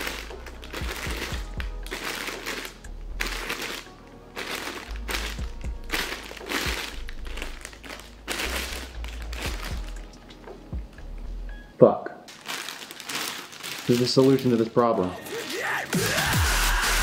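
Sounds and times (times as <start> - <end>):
plastic bag crinkling: 0.0 - 10.3, 12.3 - 15.9
music playing: 0.0 - 11.8, 15.0 - 17.0.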